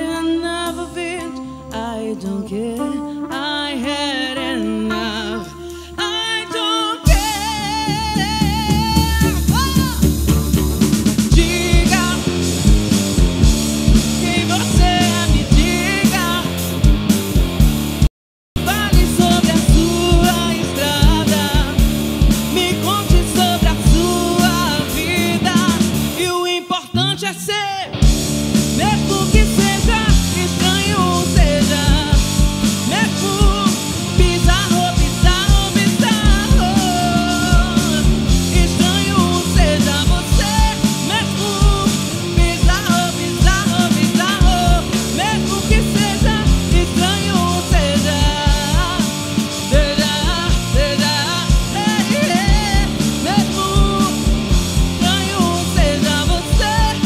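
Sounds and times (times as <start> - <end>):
woman singing: 0.0 - 10.2, 11.3 - 12.5, 14.2 - 16.5, 18.6 - 21.9, 22.5 - 27.9, 28.8 - 57.0
live rock band playing: 7.0 - 26.4, 27.9 - 57.0.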